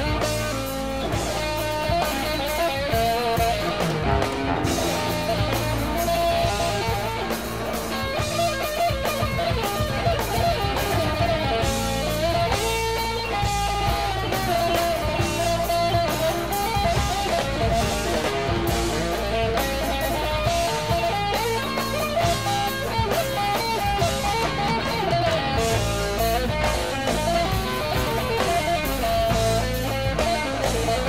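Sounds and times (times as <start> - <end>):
guitar background music: 0.0 - 31.0.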